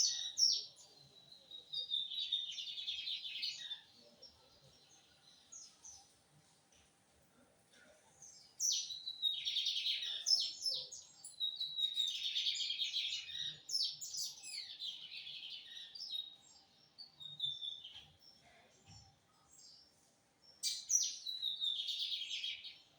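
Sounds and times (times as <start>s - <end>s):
bird singing trills and chirps: 0.0s - 6.2s, 8.2s - 22.9s.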